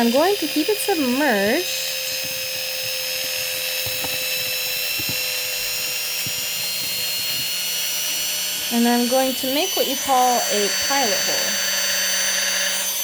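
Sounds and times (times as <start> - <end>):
rotary tool whining: 0.0 - 13.0.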